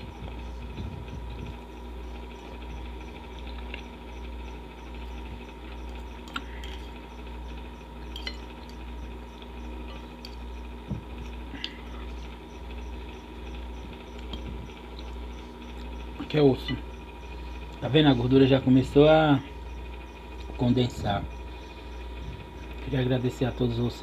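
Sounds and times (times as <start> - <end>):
electric fan humming: 0.0 - 24.0.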